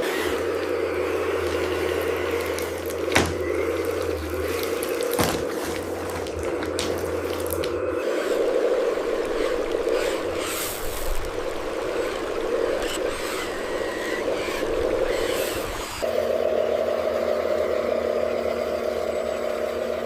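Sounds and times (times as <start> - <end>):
material scraping and rattling: 0.0 - 16.1
construction vehicles droning: 0.0 - 20.0.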